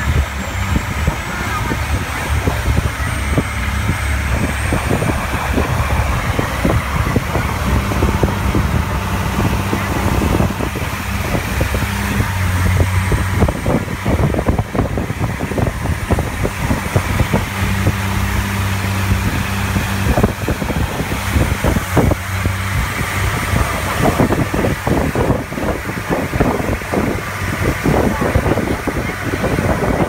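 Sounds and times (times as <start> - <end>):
motorboat engine hum: 0.0 - 30.0
water rushing and splashing: 0.0 - 30.0
wind buffeting microphone: 0.0 - 30.0.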